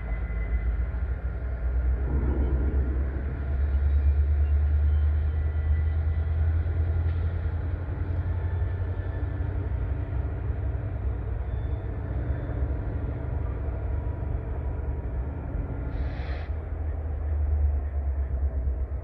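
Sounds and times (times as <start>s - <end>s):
distant diesel locomotive rumble: 0.0s - 19.0s.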